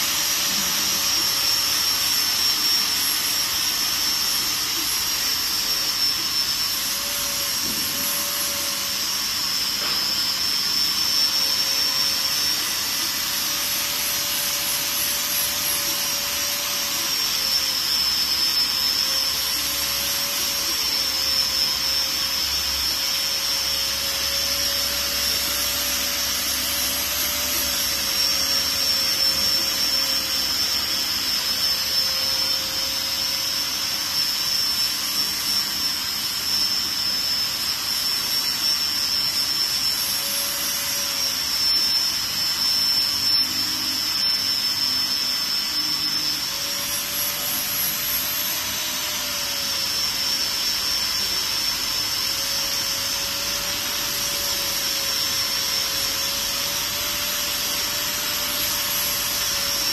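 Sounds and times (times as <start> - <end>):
machine noise with high whine: 0.0 - 59.9.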